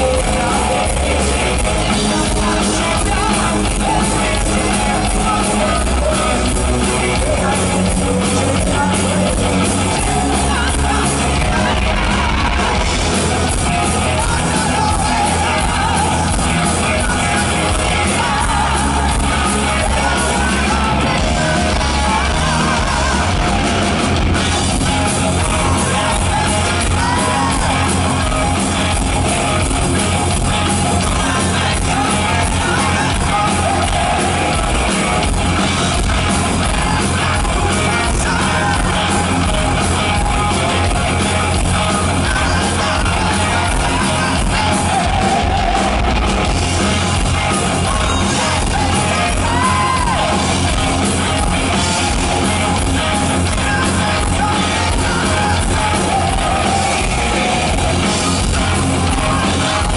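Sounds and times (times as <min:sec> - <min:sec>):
heavy metal band playing live: 0:00.0 - 0:59.9
person singing: 0:00.0 - 0:59.9.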